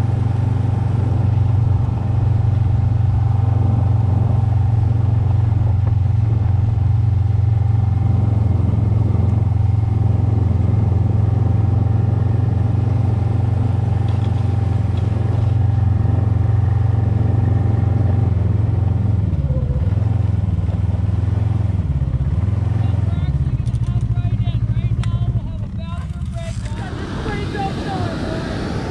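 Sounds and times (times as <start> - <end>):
snowmobile engine drone: 0.0 - 28.9.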